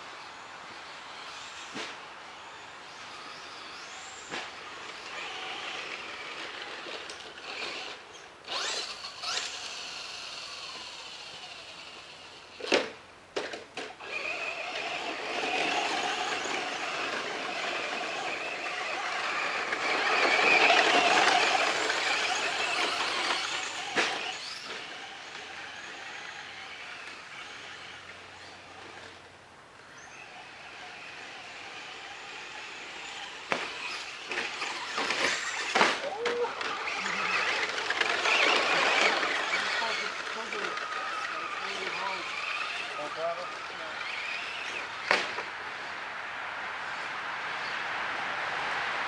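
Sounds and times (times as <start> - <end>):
rc truck motor whining: 0.1 - 46.0.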